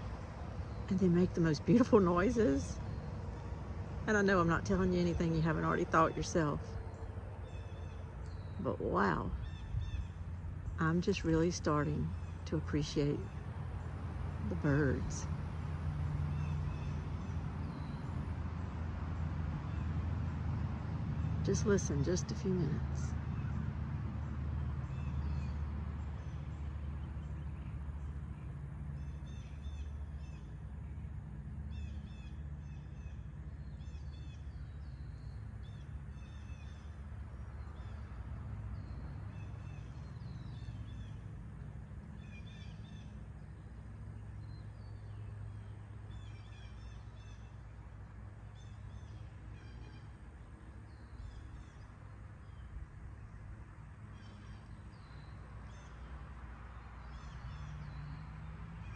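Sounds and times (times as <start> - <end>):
low background rumble: 0.0 - 56.4
songbirds chirping and trilling: 0.0 - 58.9.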